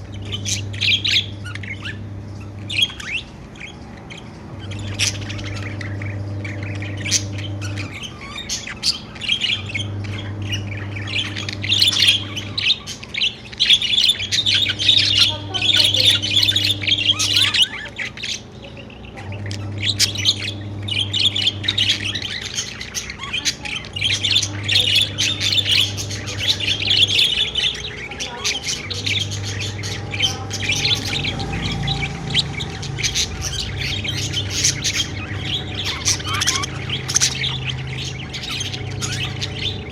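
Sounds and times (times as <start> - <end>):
budgerigars chirping and squawking: 0.0 - 39.9
low hum: 0.0 - 39.9.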